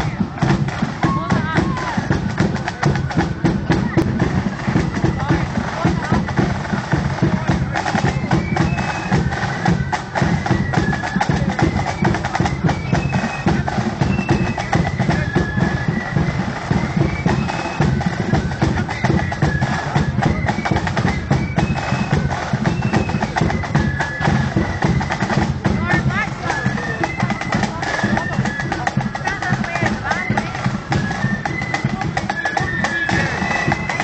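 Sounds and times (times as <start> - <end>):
high melody: 0.0 - 34.0
rapid snare drumming: 0.0 - 34.0.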